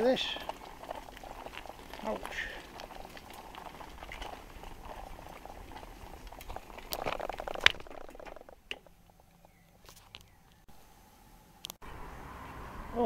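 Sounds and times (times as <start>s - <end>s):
bicycle tyres crackling on dirt: 0.0s - 10.6s
plants brushing against bike: 0.0s - 10.6s.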